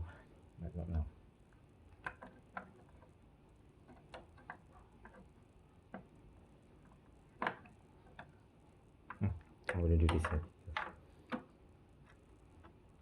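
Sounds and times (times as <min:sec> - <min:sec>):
faint clicks and taps: 0:00.9 - 0:03.2, 0:03.8 - 0:13.0.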